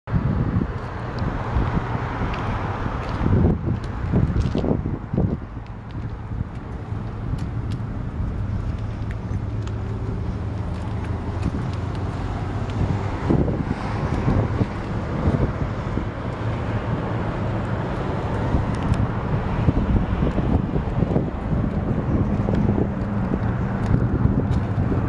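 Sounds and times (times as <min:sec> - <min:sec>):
wind buffeting microphone: 0:00.1 - 0:25.0.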